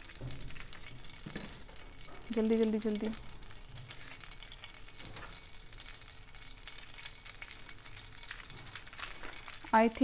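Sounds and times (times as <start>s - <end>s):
butter sizzling in a pan: 0.0s - 10.0s.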